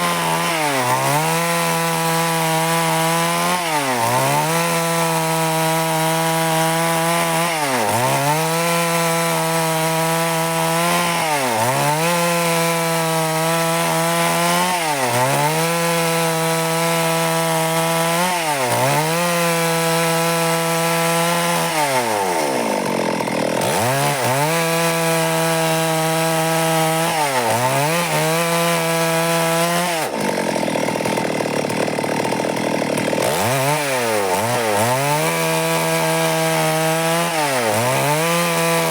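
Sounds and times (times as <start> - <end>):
chainsaw sawing wood: 0.0 - 38.9.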